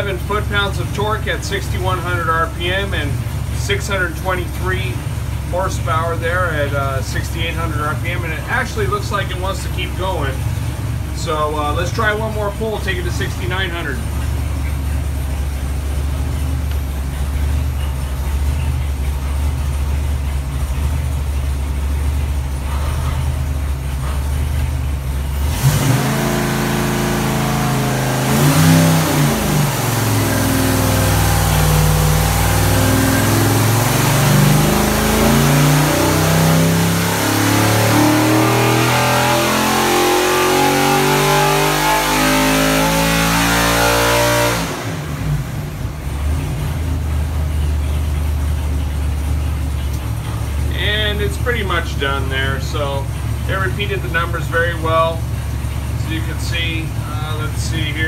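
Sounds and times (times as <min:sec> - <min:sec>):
engine revving on dyno: 0:00.0 - 0:58.0.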